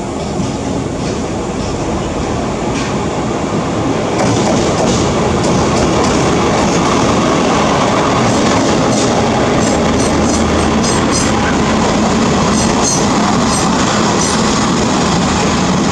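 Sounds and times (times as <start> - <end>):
diesel locomotive engine running: 0.0 - 15.9
train wheels rumbling on rails: 0.0 - 15.9.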